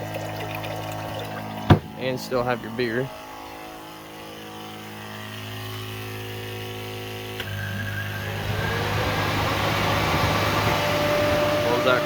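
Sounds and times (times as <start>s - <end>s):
air conditioner electric hum: 0.0s - 12.0s
fan spinning up with whine: 0.0s - 12.0s.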